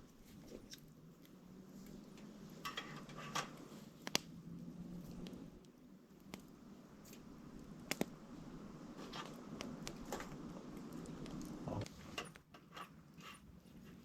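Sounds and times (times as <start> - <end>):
campfire crackling and popping: 0.0 - 12.0
low rush of burning: 0.0 - 12.2.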